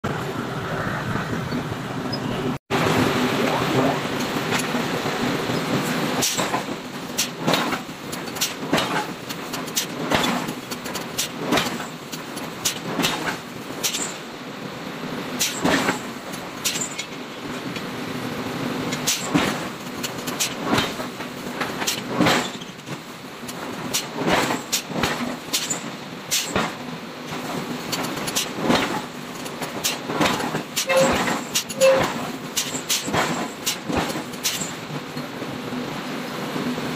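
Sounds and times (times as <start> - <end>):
steady mechanical drone: 0.0 - 36.9.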